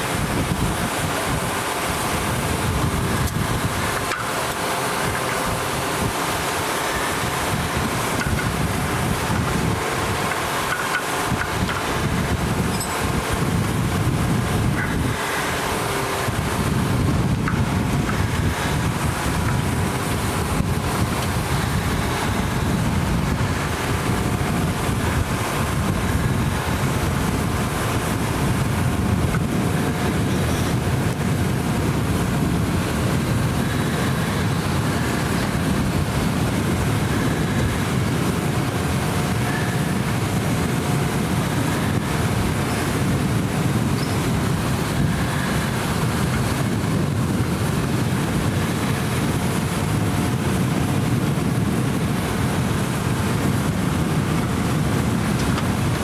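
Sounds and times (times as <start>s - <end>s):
faint wind noise on microphone: 0.0s - 56.0s
steady engine drone: 0.0s - 56.0s.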